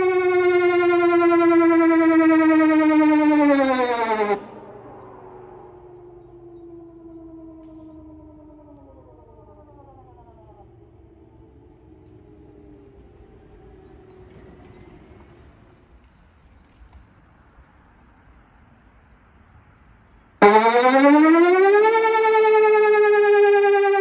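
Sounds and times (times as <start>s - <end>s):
warning siren: 0.0s - 15.8s, 20.4s - 24.0s.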